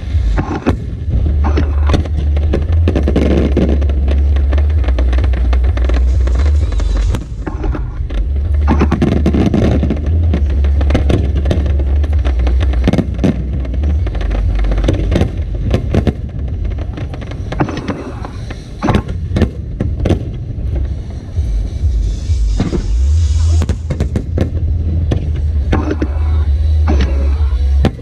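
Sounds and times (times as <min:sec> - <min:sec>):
deep rumble: 0:00.0 - 0:28.0
fireworks bangs and crackles: 0:00.0 - 0:28.0.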